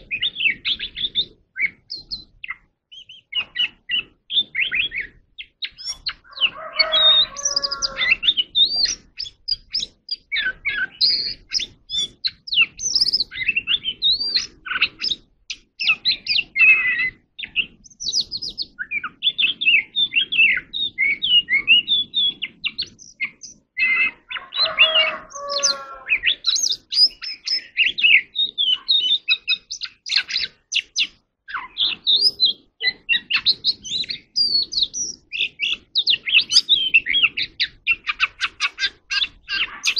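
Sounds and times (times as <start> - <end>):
bird singing whistled phrases: 0.0 - 39.9
lower bird call: 0.0 - 39.9.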